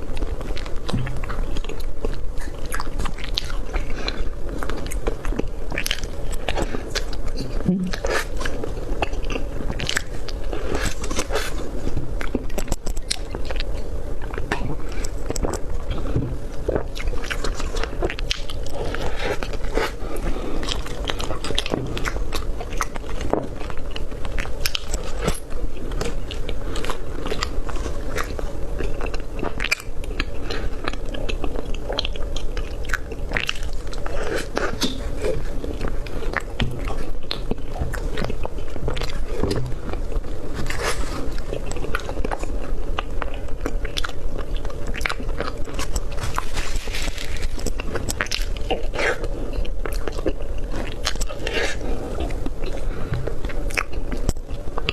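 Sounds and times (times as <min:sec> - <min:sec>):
person biting and chewing: 0:00.0 - 0:54.9.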